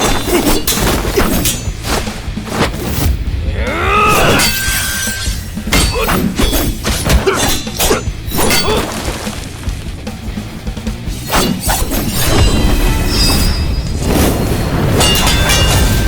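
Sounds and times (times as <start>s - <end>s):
sharp hits and clashes: 0.0s - 10.4s, 11.0s - 16.0s.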